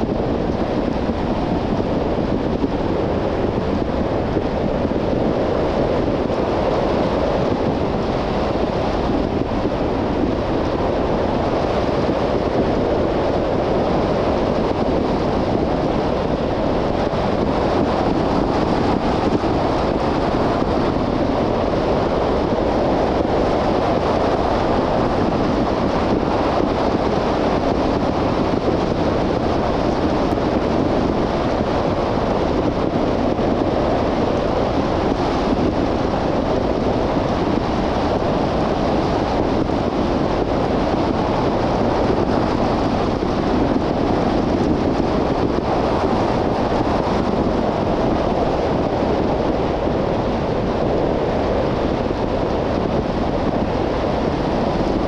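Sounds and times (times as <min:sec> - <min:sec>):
wind rushing past: 0:00.0 - 0:55.0.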